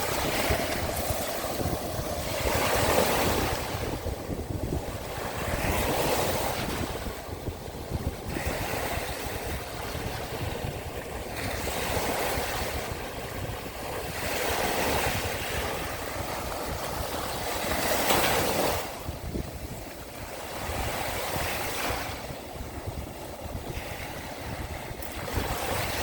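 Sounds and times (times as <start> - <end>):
waves washing onto shore: 0.0 - 26.0
wind rumble on microphone: 0.0 - 26.0.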